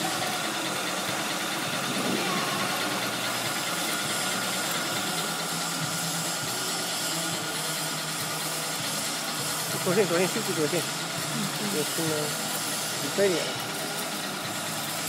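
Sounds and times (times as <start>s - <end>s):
bobbin winding machine whirring: 0.0s - 15.0s.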